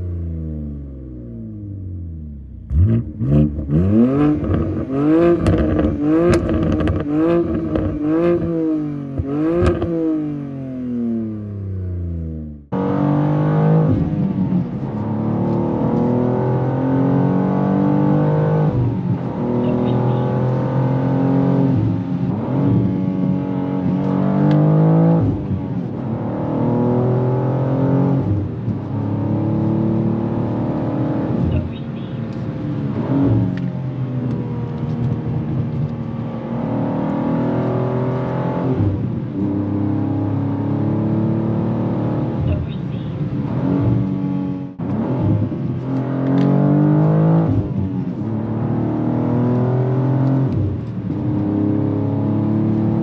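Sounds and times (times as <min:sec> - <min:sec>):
car engine revving in blips: 0:00.0 - 0:53.0
car engine while driving: 0:00.0 - 0:53.0.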